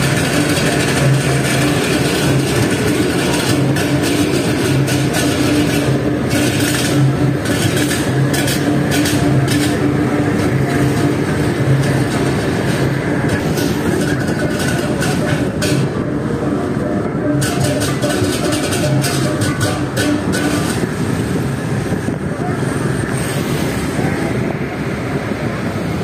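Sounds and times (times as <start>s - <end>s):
motorcycle engine running: 0.0s - 26.0s
road and wind noise: 0.0s - 26.0s
traffic: 0.0s - 26.0s.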